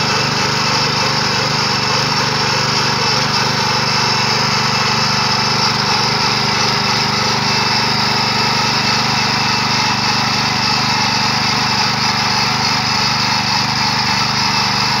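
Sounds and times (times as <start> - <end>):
tiller engine running: 0.0 - 15.0
tines churning soil: 0.0 - 15.0.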